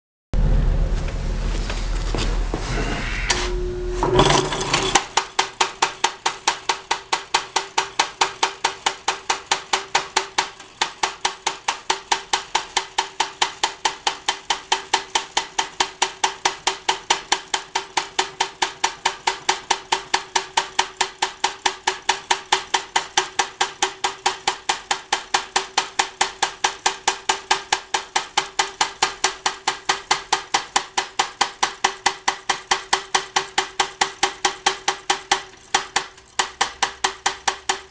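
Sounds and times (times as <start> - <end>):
sharp metallic clacks: 4.4 - 37.9.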